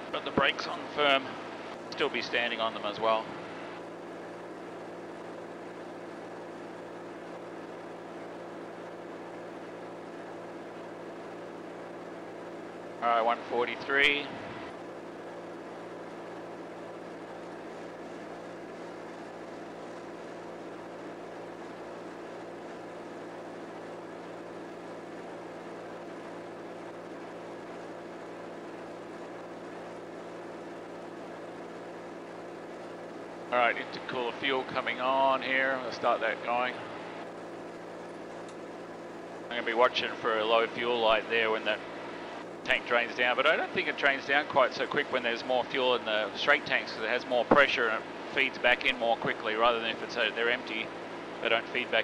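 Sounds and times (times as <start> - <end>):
aircraft engine humming: 0.0 - 52.0.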